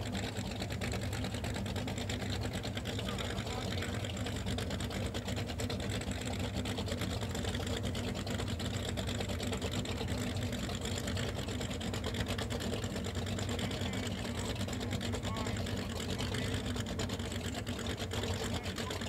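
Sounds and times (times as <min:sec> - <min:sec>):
powerboat engine idling: 0:00.0 - 0:19.0.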